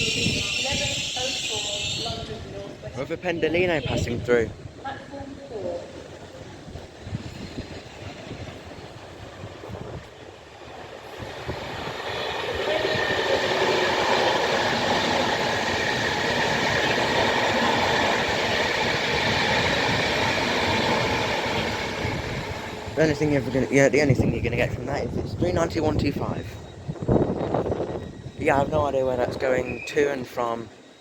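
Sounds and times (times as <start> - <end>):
electric train passing at speed: 0.0 - 31.0.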